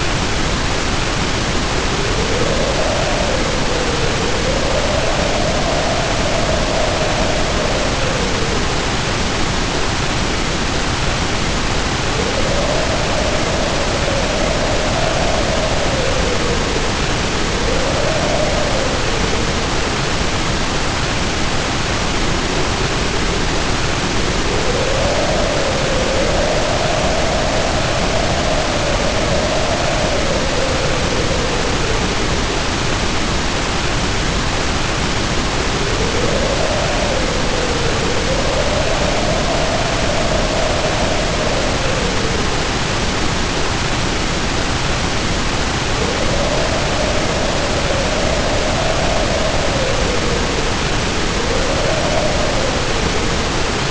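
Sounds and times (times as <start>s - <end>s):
heavy rain pouring: 0.0s - 53.9s
howling wind: 0.0s - 53.9s.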